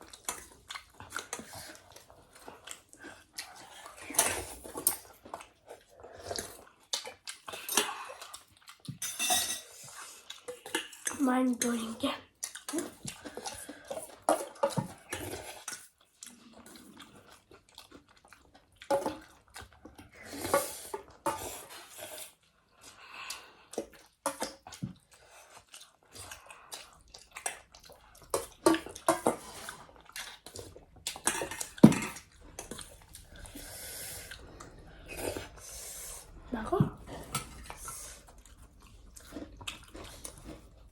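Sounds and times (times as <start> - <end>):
slurping noodles and broth: 0.0 - 8.8, 12.5 - 40.9
chewing: 0.0 - 40.9.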